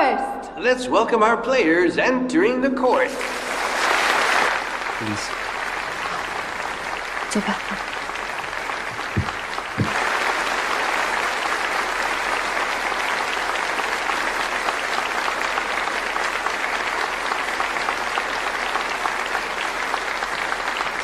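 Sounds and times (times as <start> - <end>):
crowd applauding: 3.1 - 21.0.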